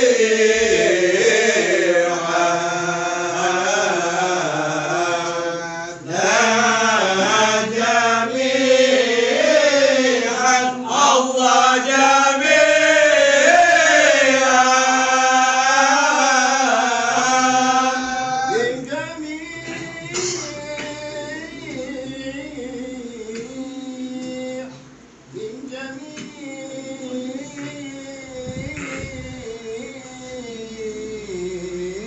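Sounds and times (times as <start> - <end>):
men chanting devotional praises: 0.0 - 32.0.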